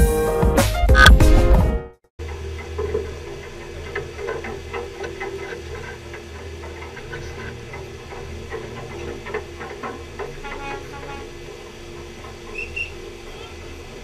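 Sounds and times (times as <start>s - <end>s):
boat machinery droning: 2.2s - 14.0s.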